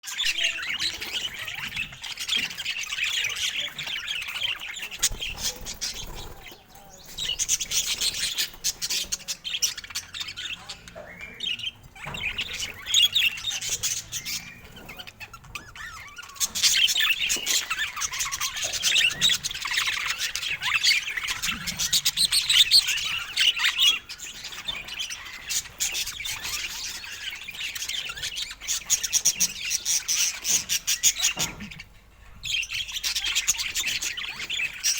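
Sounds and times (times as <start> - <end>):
budgerigar chatter: 0.0 - 34.9.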